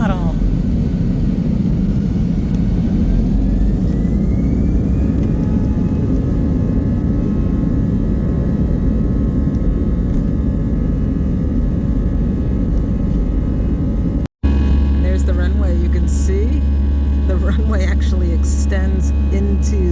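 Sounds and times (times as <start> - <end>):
jet engine whine: 0.0 - 19.9
jet engines rumbling in cabin: 0.0 - 19.9.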